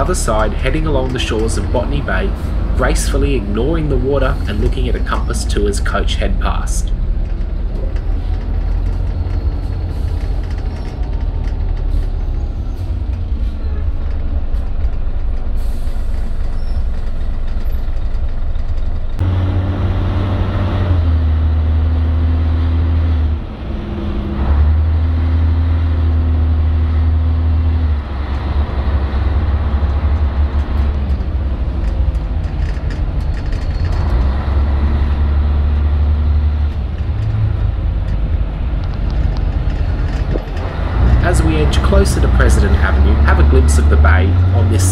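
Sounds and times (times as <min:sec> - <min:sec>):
bus diesel engine: 0:00.0 - 0:44.9.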